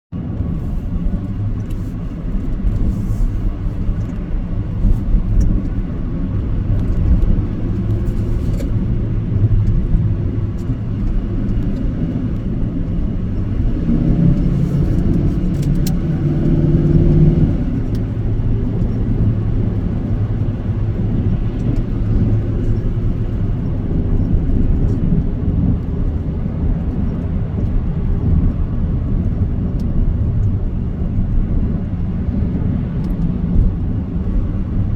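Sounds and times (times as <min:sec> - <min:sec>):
road noise: 0:00.1 - 0:34.9
vehicle engine rumble: 0:00.1 - 0:34.9.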